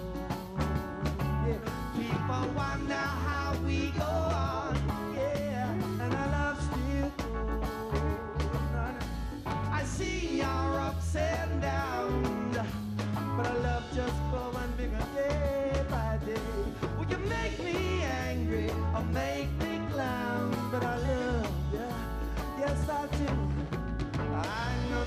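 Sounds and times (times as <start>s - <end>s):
live reggae band playing: 0.0s - 25.0s.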